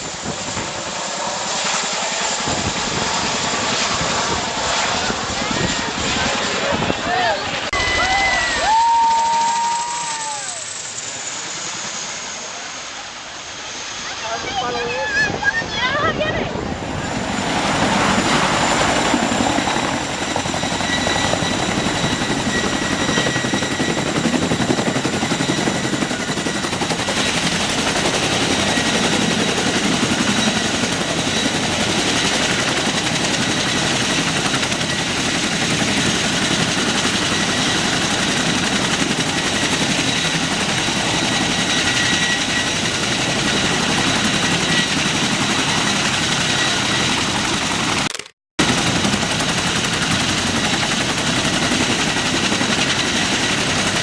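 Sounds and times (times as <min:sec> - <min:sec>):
helicopter rotor chop: 0:00.0 - 0:54.0
turbine whine: 0:00.0 - 0:54.0.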